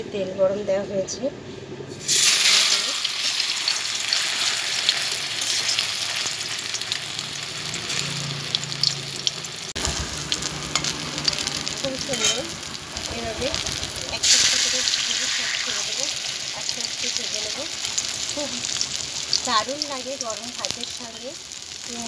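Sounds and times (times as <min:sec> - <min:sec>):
battered flowers deep-frying in oil: 0:01.9 - 0:22.0.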